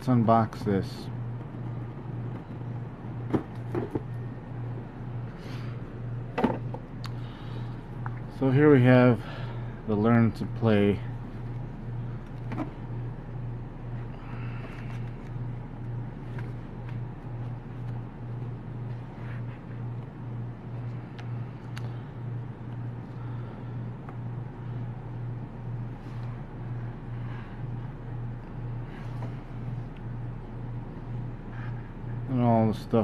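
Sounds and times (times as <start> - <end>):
low throbbing hum: 0.0 - 32.9.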